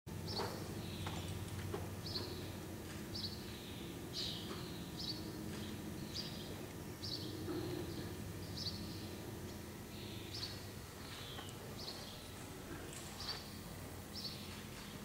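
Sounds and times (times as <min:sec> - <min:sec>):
low hum: 0:00.1 - 0:15.0.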